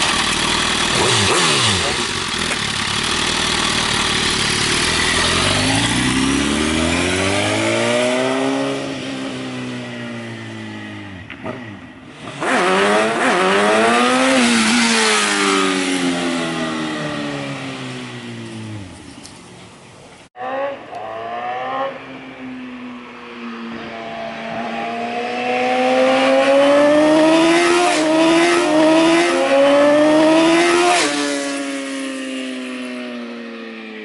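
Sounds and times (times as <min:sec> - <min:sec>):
motorcycle engine revving: 0:00.0 - 0:19.2, 0:20.3 - 0:33.8.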